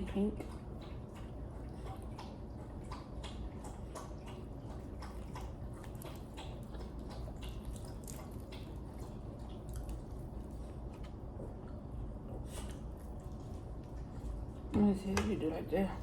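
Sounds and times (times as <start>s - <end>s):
wet chewing sounds: 0.0s - 14.7s
low steady hum: 0.0s - 16.0s.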